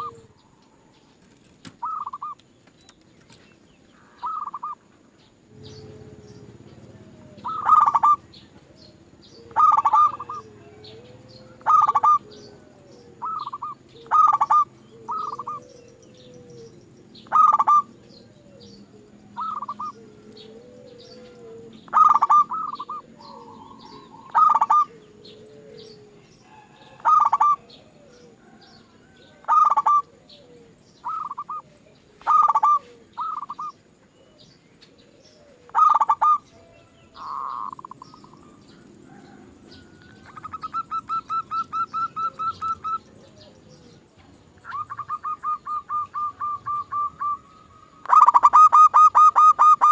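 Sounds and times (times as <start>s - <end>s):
dove cooing: 0.0s - 2.5s, 4.0s - 49.9s
steady low hum: 3.2s - 48.2s.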